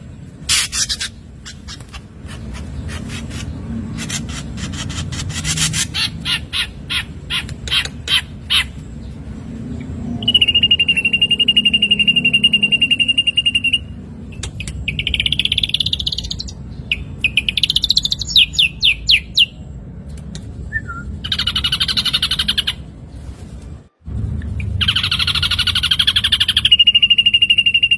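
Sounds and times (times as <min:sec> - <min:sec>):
bird singing varied song: 0:00.0 - 0:22.9, 0:24.4 - 0:27.9.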